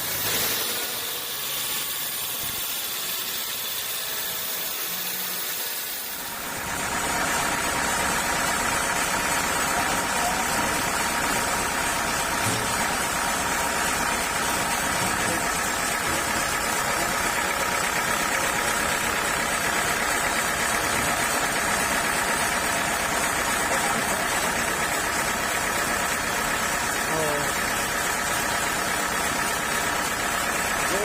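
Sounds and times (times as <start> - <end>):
sawmill machinery hum: 0.0 - 31.0.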